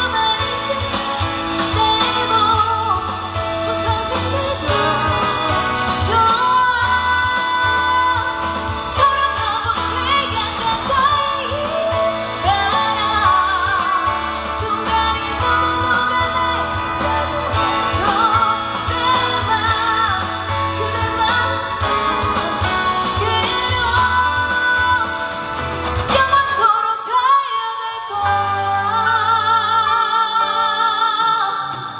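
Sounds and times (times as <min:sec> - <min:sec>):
guitar and bass accompaniment: 0:00.0 - 0:26.6
woman singing with vibrato: 0:00.0 - 0:31.9.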